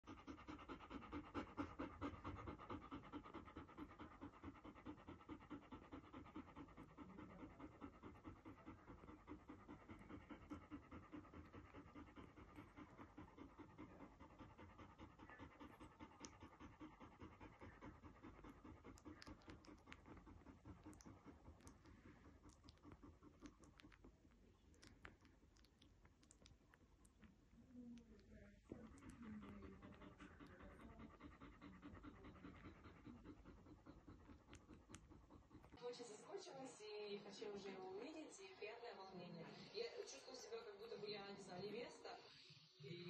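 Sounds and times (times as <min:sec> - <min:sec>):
dog panting: 0:00.0 - 0:43.0.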